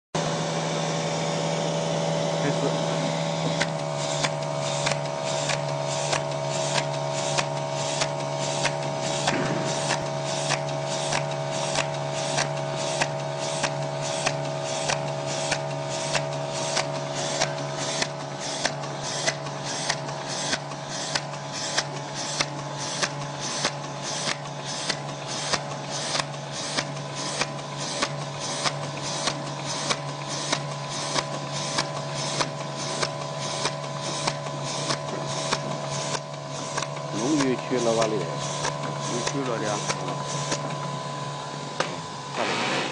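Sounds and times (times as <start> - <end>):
machine humming: 0.2 - 42.9
sharp machine clicking: 2.4 - 40.8.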